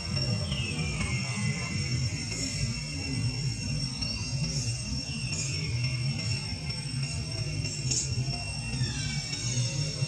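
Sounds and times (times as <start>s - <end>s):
jingling bell-like music: 0.0s - 10.0s.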